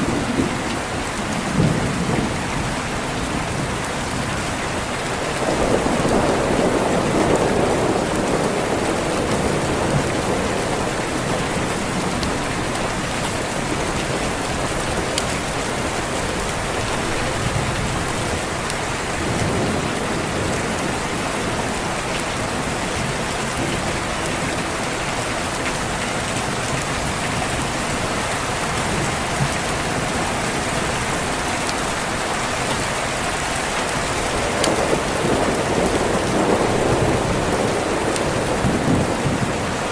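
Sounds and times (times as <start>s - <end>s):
low rolling thunder: 0.0s - 39.9s
steady rain: 0.0s - 39.9s.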